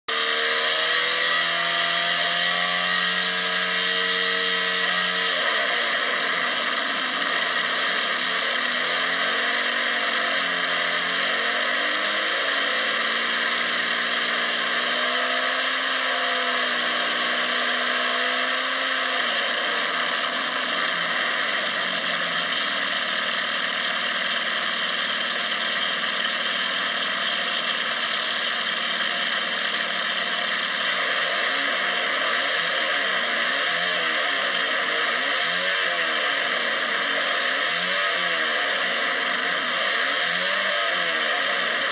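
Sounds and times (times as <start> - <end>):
car engine on dynamometer: 0.1 - 41.9.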